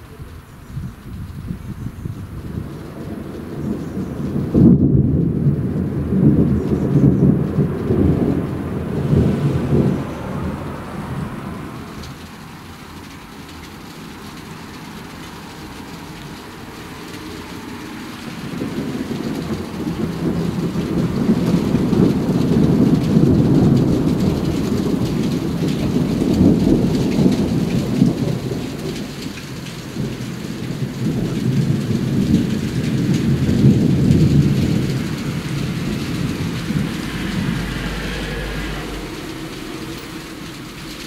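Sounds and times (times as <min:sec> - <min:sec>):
rolling thunder: 0:00.7 - 0:12.9, 0:17.3 - 0:41.0.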